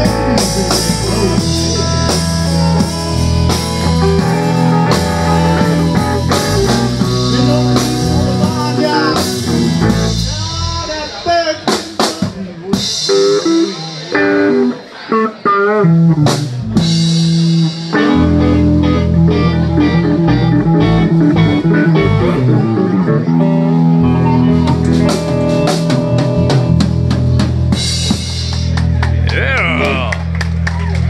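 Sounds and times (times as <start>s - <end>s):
electric guitar bent notes: 0.0s - 30.3s
blues band playing: 0.0s - 31.0s.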